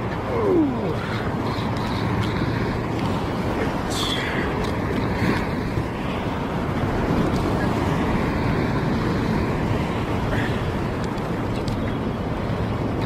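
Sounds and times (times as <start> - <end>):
ocean surf washing over rocks: 0.0 - 13.0
wind buffeting microphone: 0.0 - 13.0.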